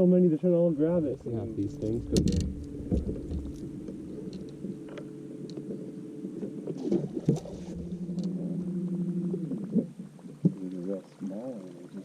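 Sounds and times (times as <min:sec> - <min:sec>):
boat motor humming: 0:00.6 - 0:12.0.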